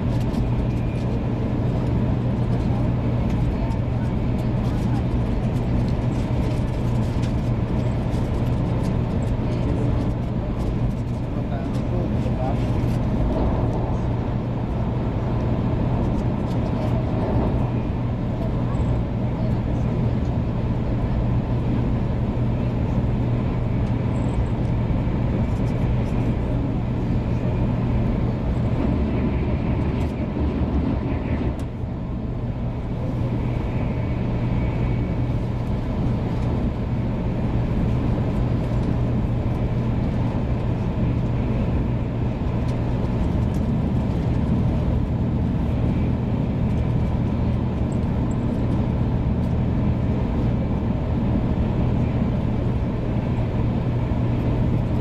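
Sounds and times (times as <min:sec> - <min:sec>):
train cabin rumble and hum: 0:00.0 - 0:55.0.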